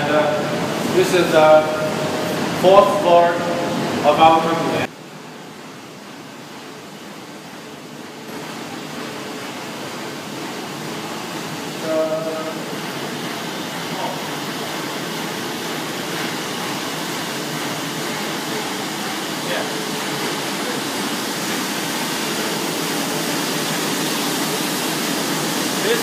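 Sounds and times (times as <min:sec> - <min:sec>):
printing press rumbling: 0:00.0 - 0:26.0.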